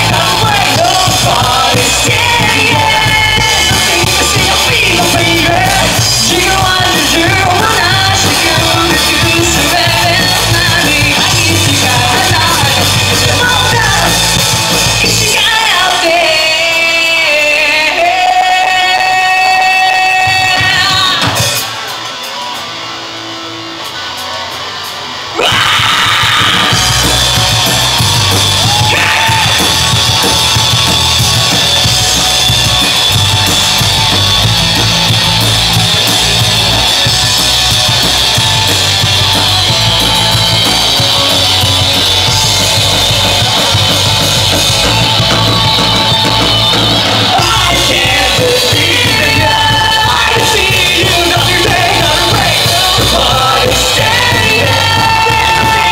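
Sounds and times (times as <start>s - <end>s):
drum kit: 0.0s - 17.1s, 17.7s - 23.0s, 23.8s - 55.9s
vocals: 0.0s - 22.5s, 25.3s - 55.9s
electric guitars: 0.0s - 55.9s.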